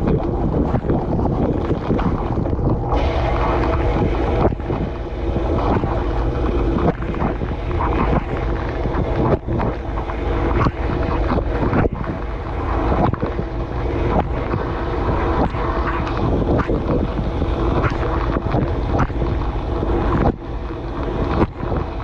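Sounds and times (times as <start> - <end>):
low motor hum: 0.0 - 22.0
water jets spraying: 0.0 - 22.0.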